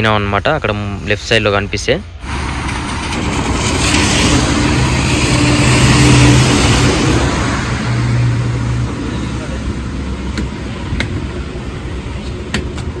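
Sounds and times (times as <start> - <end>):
engine hum: 2.1 - 13.0.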